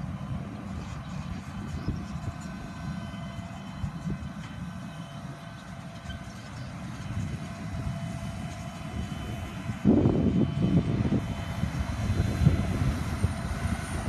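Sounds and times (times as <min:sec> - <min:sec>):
tractor engine running with whine: 0:00.0 - 0:14.0
wind buffeting microphone: 0:00.0 - 0:14.0.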